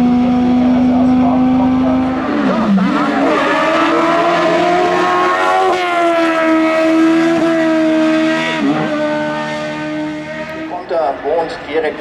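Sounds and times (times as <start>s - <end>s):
race car engine at high revs: 0.0s - 10.9s.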